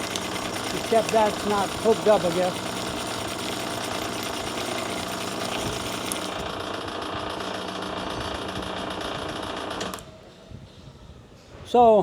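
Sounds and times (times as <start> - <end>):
fast mechanical rattle: 0.0 - 9.8
grinder machine humming: 0.0 - 9.9.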